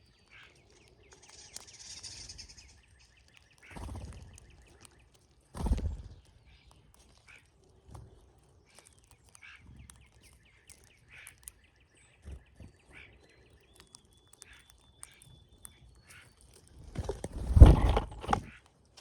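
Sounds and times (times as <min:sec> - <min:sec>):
bird chips and whistle: 0:00.0 - 0:17.4.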